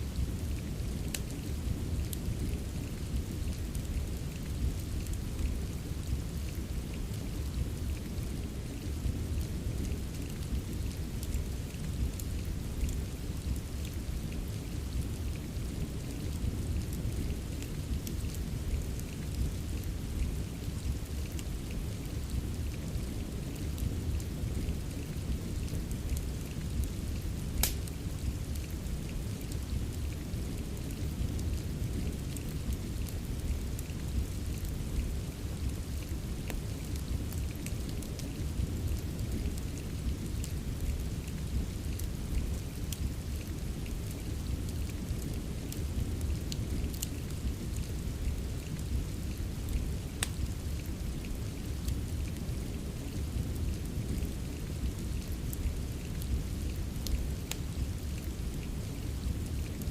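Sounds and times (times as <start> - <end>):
crackling wood fire: 0.0 - 59.9
steady rain hiss: 0.0 - 59.9.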